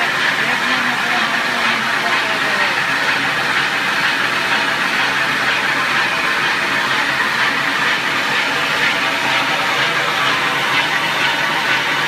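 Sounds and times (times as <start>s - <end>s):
lathe running: 0.0s - 12.0s.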